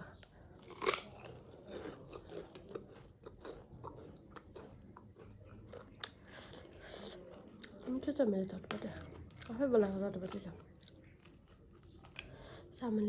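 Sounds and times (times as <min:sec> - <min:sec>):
person chewing crunchy snack: 0:00.5 - 0:08.1, 0:08.9 - 0:12.6.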